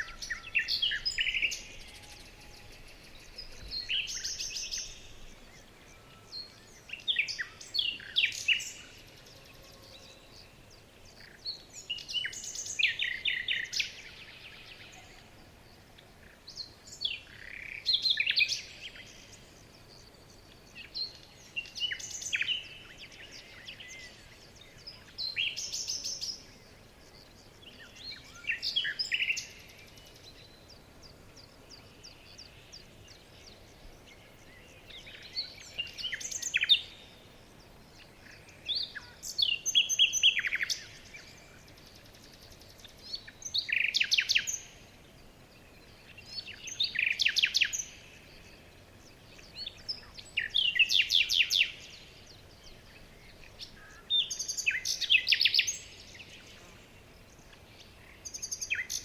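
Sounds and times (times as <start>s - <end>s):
faint steady hiss: 0.0s - 59.0s
songbird chirps and trills: 0.0s - 59.0s.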